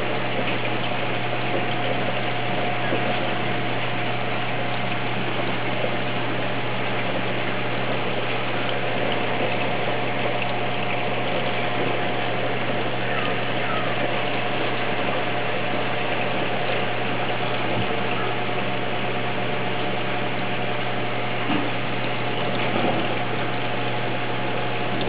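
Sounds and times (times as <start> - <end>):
aquarium pump humming: 0.0 - 25.0
circulating water hiss: 0.0 - 25.0.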